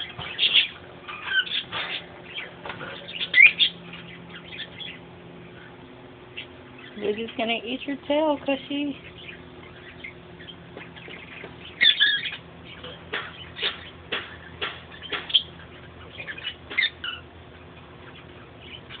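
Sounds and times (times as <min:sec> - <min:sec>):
parrot squawking: 0:00.0 - 0:07.0, 0:09.0 - 0:19.0.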